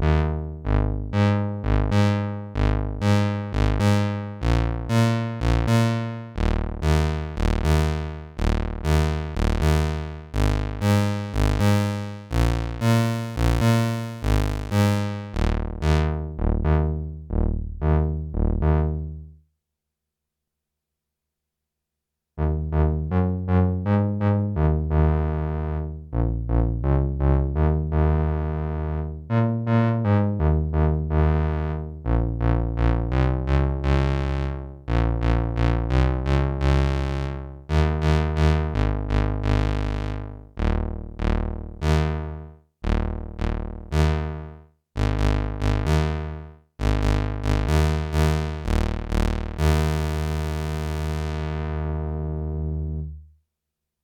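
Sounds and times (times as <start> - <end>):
synthesizer bass line: 0.0 - 19.4, 22.4 - 53.2.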